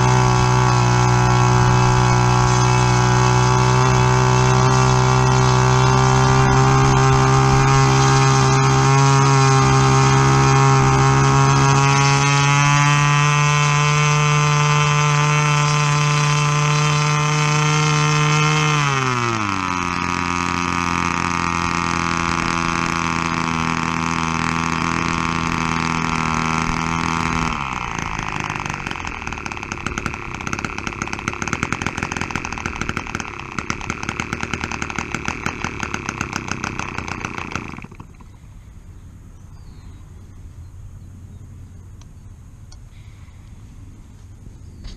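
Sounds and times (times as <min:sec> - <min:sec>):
model airplane engine running: 0:00.0 - 0:38.8.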